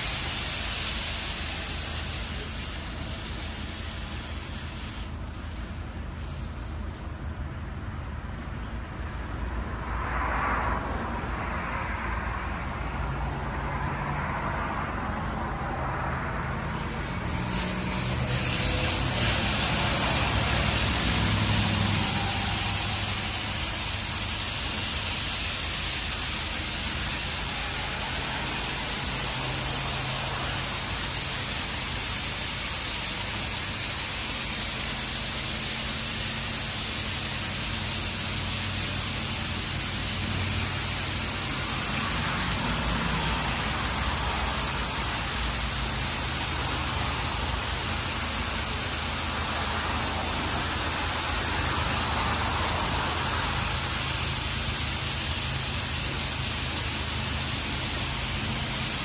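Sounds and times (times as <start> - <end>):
high-pressure water spray hiss: 0.0 - 7.6, 8.4 - 59.0.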